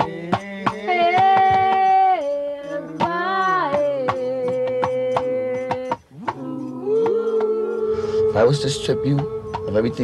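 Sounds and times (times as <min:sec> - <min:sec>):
percussive clicking beat: 0:00.0 - 0:10.0
person singing long notes: 0:00.0 - 0:10.0.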